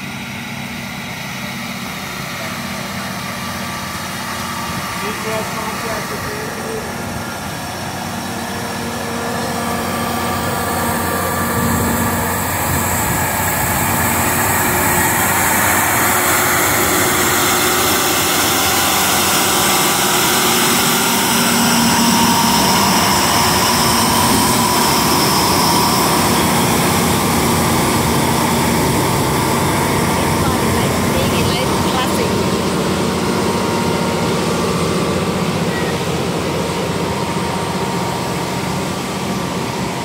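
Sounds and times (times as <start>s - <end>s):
locomotive engine drone with hiss: 0.0s - 40.0s.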